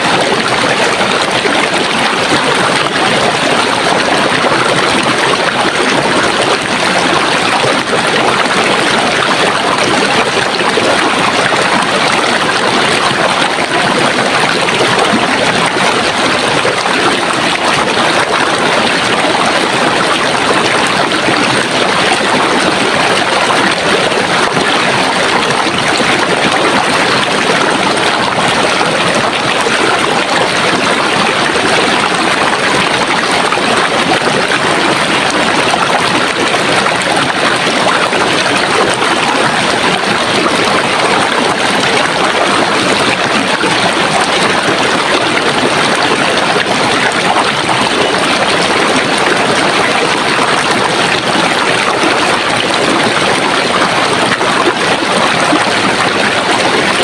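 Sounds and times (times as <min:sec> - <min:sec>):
stream flowing and splashing: 0:00.0 - 0:57.0.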